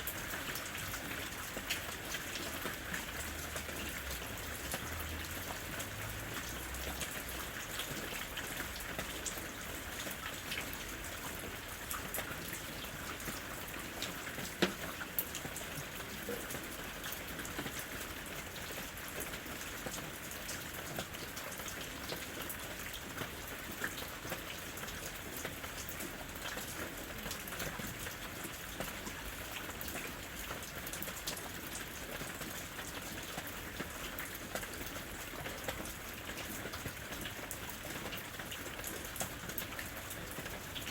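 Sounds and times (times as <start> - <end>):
rain pattering in a forest: 0.0 - 40.9.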